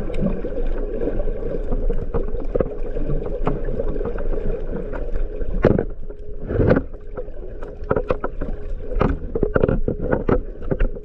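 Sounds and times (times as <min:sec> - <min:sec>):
underwater clicks and knocks: 0:00.0 - 0:11.0
underwater rumble of moving water: 0:00.0 - 0:11.0.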